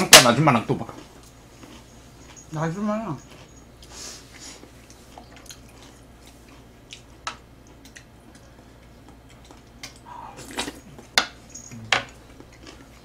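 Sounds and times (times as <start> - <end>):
eating sounds: 0.0 - 13.0
low steady hum: 0.0 - 13.0.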